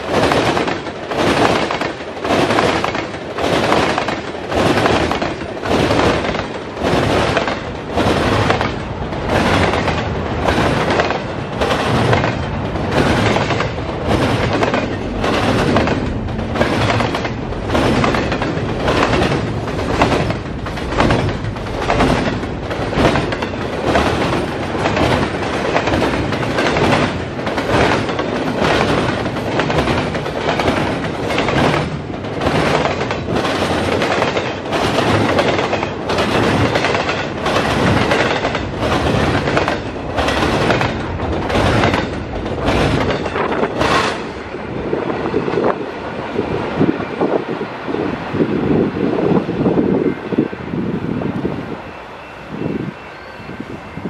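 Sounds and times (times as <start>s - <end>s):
freight train rumble: 0.0s - 54.0s
steel wheels clacking: 0.1s - 44.4s.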